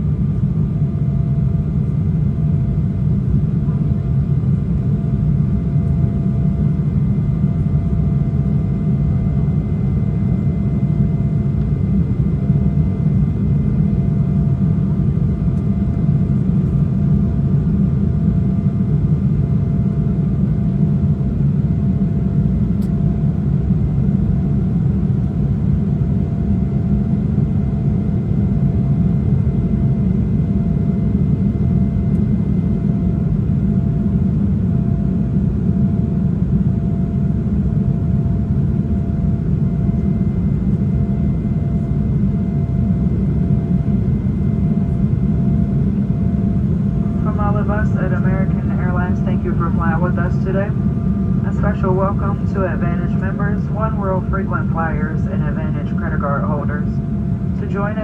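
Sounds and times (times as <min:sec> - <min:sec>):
airliner cabin roar: 0:00.0 - 0:58.0.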